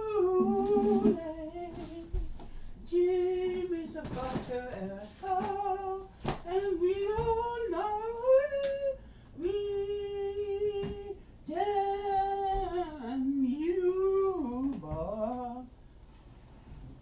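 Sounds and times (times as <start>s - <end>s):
person humming wordless tune: 0.0s - 15.7s.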